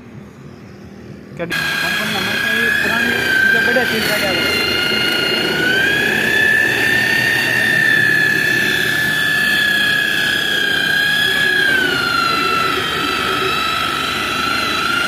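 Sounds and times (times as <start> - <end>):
electric polisher motor whine: 1.5 - 15.0.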